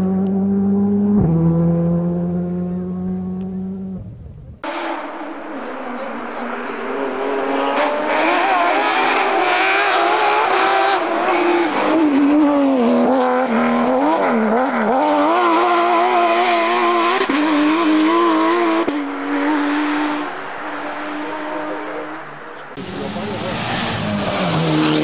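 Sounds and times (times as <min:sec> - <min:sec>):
car engine revving hard: 0:04.6 - 0:25.0.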